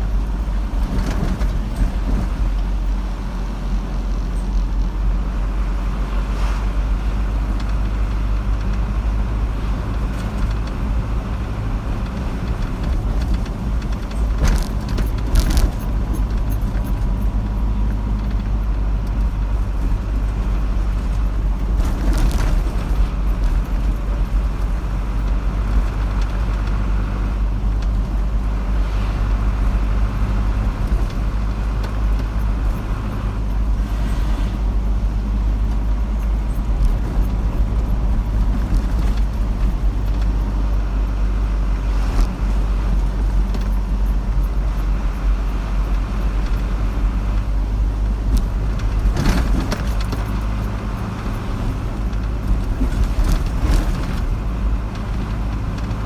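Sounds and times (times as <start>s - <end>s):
car driving road noise: 0.0s - 56.0s.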